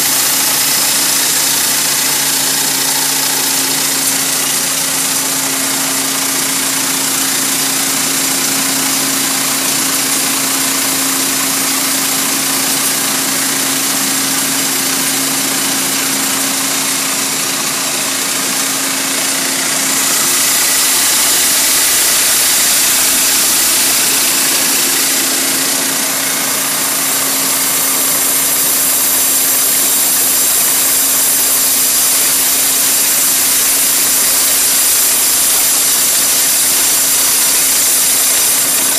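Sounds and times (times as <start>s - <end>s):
machine motor hum: 0.0s - 38.9s.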